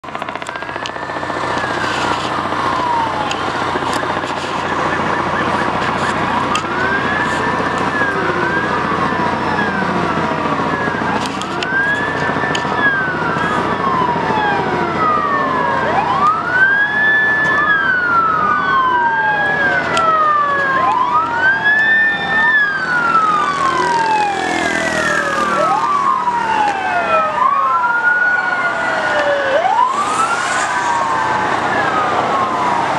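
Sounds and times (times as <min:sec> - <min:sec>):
police sirens wailing: 0:00.0 - 0:32.9.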